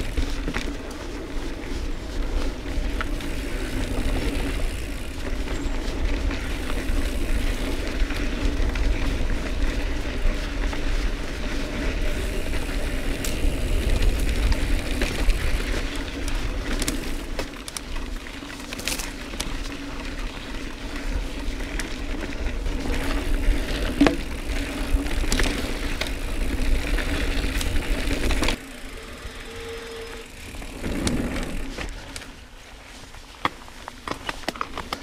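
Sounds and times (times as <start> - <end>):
bike clicks and rattles: 0.0 - 35.0
bike tyres rolling on dirt: 0.0 - 35.0.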